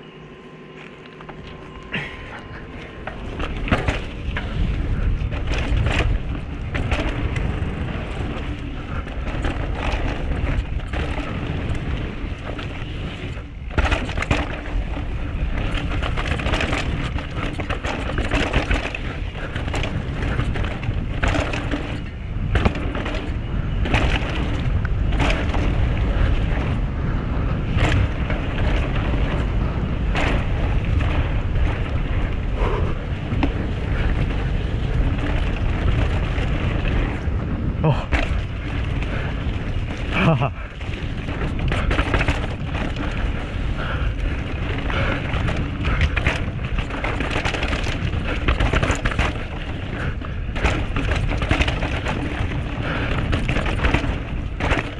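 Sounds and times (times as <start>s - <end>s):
tyres over dirt and rocks: 0.7s - 54.9s
bike knocking and rattling: 0.8s - 54.9s
wind rumble on microphone: 1.3s - 54.9s.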